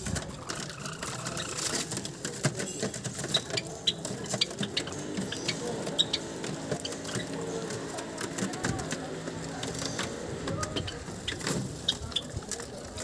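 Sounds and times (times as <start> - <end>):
birds pecking seeds: 0.0 - 13.0.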